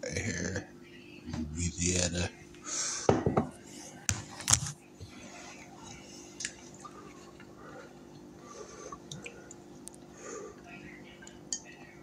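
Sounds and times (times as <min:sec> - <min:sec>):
faint muffled voices: 0:00.0 - 0:09.5, 0:10.1 - 0:12.0.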